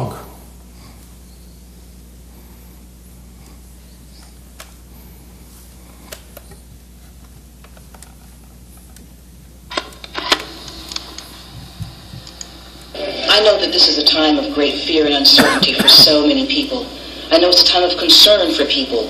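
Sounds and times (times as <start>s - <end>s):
steady low hum: 0.0s - 19.0s
tape playback hiss: 0.0s - 19.0s.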